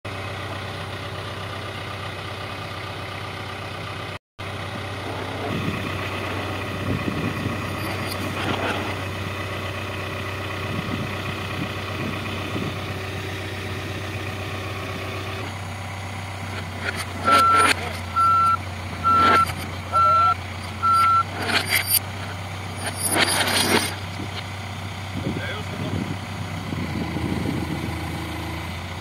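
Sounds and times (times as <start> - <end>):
diesel engine idling: 0.1 - 29.0.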